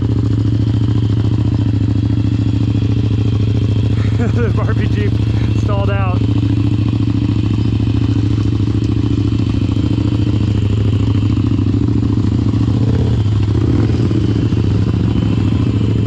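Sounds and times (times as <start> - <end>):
small vehicle engine running: 0.0 - 16.0.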